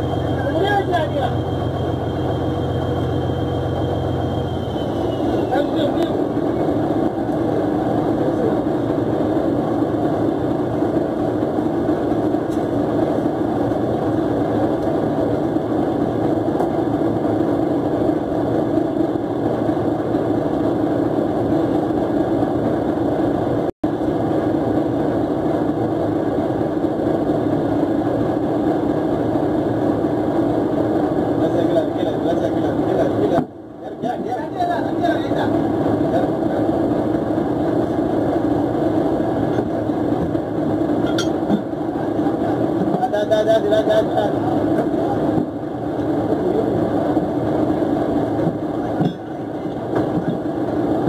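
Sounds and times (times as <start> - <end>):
boat diesel engine droning: 0.0 - 51.0.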